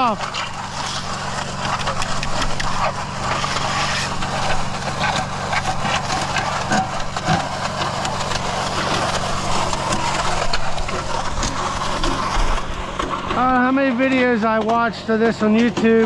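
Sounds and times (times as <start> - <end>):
concrete mixer engine running: 0.0 - 16.0
knocks and scrapes: 0.2 - 16.0.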